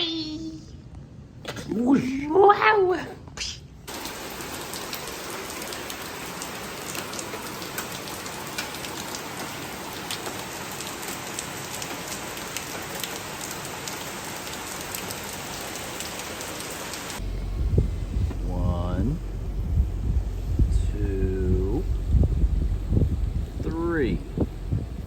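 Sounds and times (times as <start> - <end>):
steady rain falling: 3.9 - 25.0.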